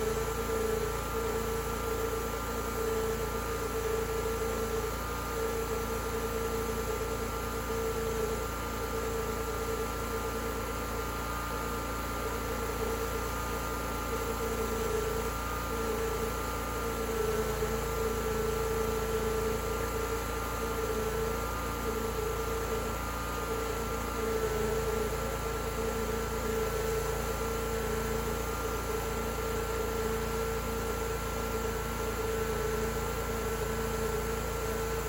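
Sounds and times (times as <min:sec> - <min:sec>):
sawmill running: 0:00.0 - 0:35.0.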